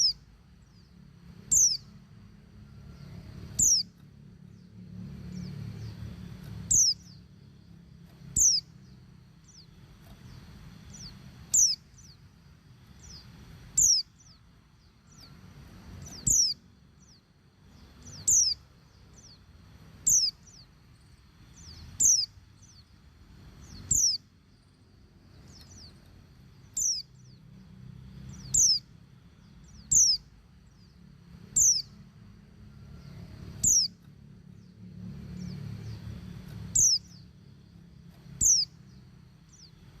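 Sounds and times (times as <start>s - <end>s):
bird high slurred calls: 0.0s - 2.0s, 2.7s - 7.4s, 8.1s - 23.0s, 23.6s - 27.4s, 28.3s - 32.0s, 32.8s - 34.0s, 34.6s - 37.3s, 38.2s - 40.0s
low steady hum: 0.0s - 40.0s.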